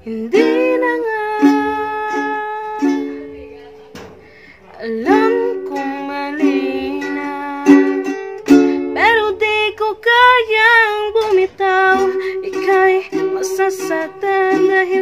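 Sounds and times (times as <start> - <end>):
woman singing: 0.0 - 4.0, 4.6 - 15.0
ukulele strumming chords: 0.1 - 15.0.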